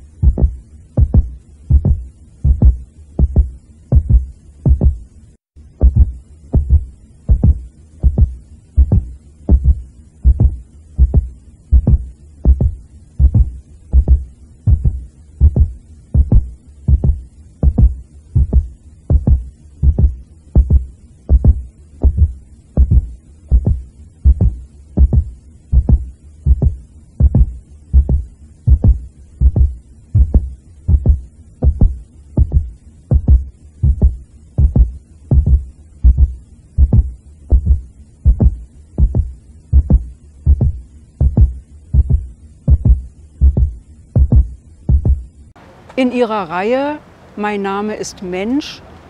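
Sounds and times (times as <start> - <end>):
low hum: 0.0 - 49.0
heartbeat-like double thumps: 0.2 - 5.1, 5.8 - 45.3.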